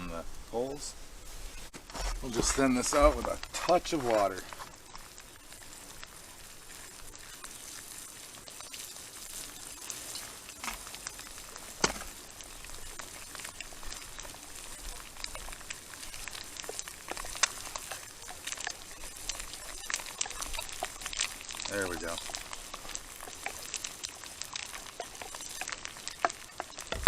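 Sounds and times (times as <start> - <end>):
gravy sizzling and bubbling: 0.0 - 27.0
sharp crackles and pops: 0.0 - 27.0.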